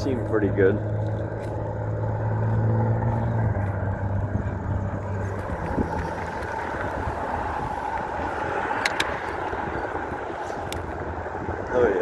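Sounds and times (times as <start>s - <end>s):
road noise: 0.0s - 12.0s
wind noise: 0.9s - 12.0s.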